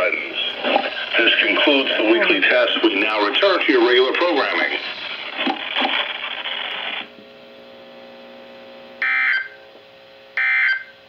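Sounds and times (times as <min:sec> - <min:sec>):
radio receiver hiss: 0:00.0 - 0:09.0
faint hum: 0:00.0 - 0:11.0.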